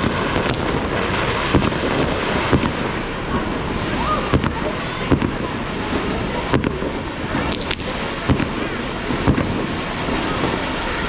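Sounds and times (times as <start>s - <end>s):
firework bangs: 0.0s - 11.0s
rumbling hiss of fireworks: 0.0s - 11.0s.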